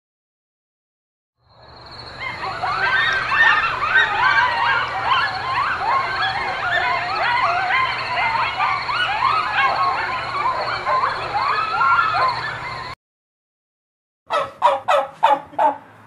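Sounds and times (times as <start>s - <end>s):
coyotes yipping and howling: 1.5s - 13.0s, 14.3s - 15.9s.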